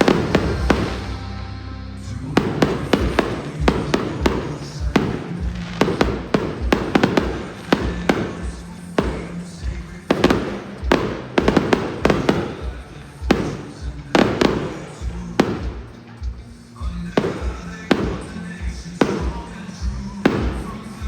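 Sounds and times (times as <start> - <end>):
fireworks bursting: 0.0 - 21.0
music over sound system: 0.0 - 21.0.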